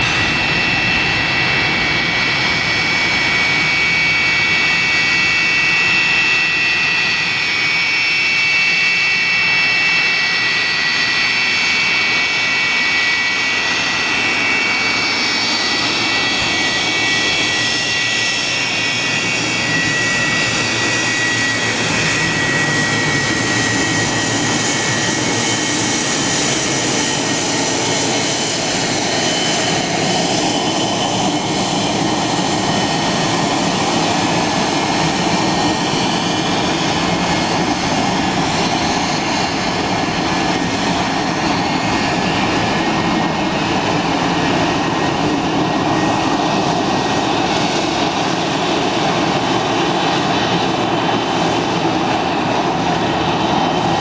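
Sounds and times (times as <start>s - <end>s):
high jet whine: 0.0s - 54.0s
jet engines roaring: 0.0s - 54.0s.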